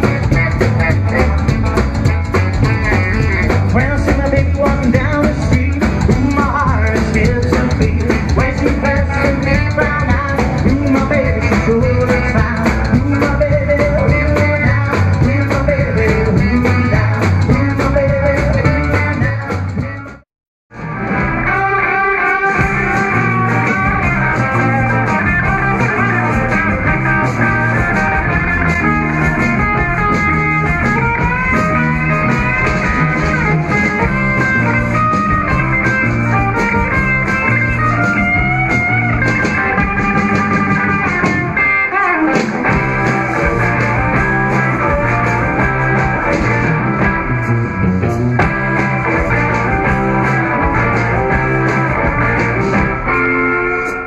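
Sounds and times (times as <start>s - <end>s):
electric guitar lead: 0.0s - 54.0s
live rock band playing: 0.0s - 54.0s.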